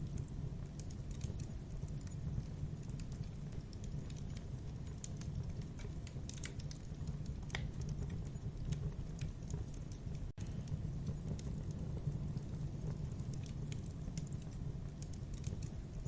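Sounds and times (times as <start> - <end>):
fire low rumble: 0.0 - 16.0
wood crackling and popping: 0.0 - 16.0.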